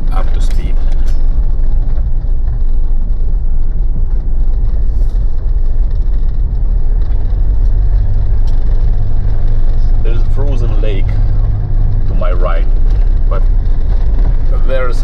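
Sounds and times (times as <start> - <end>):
diesel car engine: 0.0 - 15.0
tyre noise on dirt road: 0.0 - 15.0.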